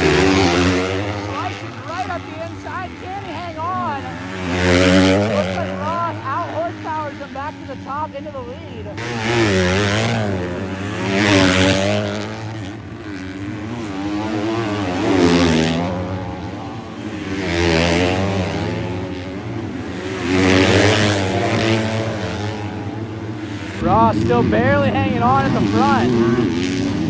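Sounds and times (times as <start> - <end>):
motocross bike engines revving: 0.0 - 27.0.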